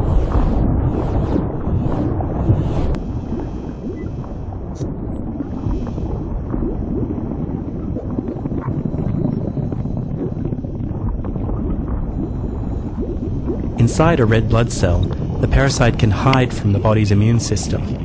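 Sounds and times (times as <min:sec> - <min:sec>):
low rushing and rumbling: 0:00.0 - 0:18.0.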